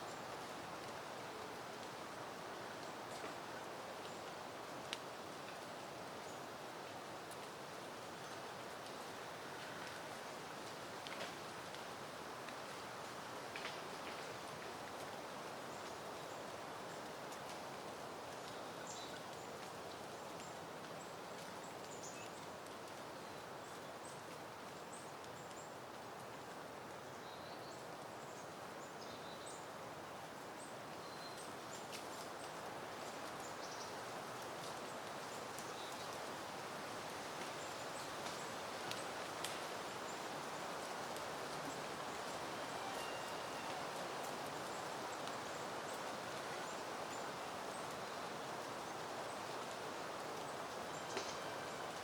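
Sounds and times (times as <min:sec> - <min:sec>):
wind rustling through plants: 0:00.0 - 0:52.0.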